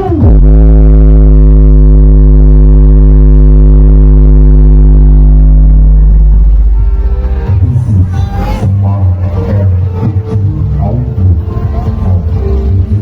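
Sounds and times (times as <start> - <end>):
deep bass note from subwoofers: 0.0 - 13.0.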